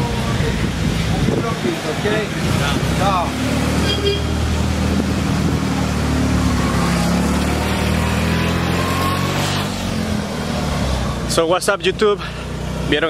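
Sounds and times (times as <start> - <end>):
small car engine passing: 0.0 - 13.0.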